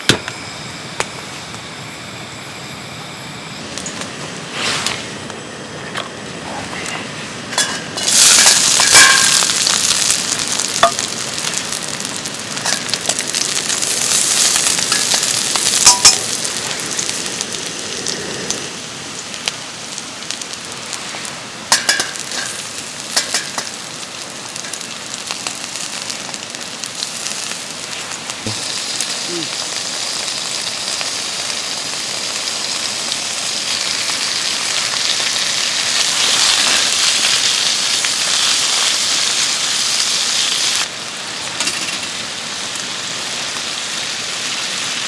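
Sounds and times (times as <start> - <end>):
food sizzling in a hot pan: 0.0 - 5.3, 7.4 - 45.0.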